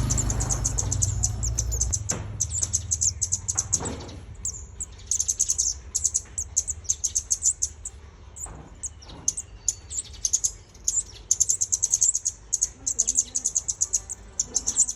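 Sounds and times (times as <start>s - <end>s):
songbird chirping in fast trills: 0.0s - 14.9s.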